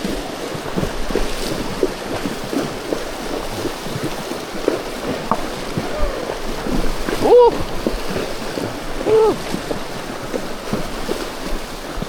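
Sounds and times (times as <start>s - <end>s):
horses splashing through water: 0.0s - 12.0s
rushing water: 0.0s - 12.0s.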